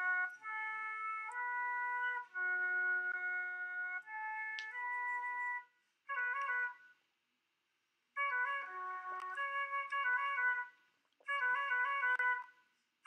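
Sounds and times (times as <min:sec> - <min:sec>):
flute playing slow notes: 0:00.0 - 0:07.0, 0:08.2 - 0:12.8.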